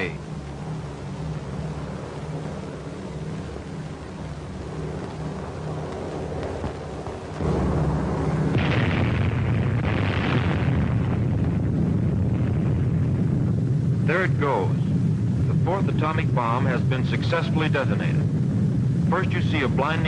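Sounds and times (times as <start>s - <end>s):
aircraft engines droning: 0.0s - 20.0s
explosion deep rumble: 0.0s - 20.0s.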